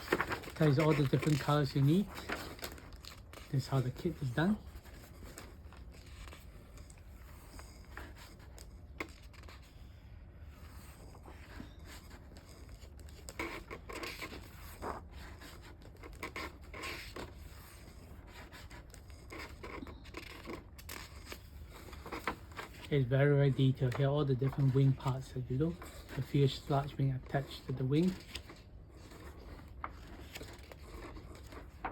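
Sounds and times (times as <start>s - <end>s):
paper rustling and pages turning: 0.0s - 31.9s.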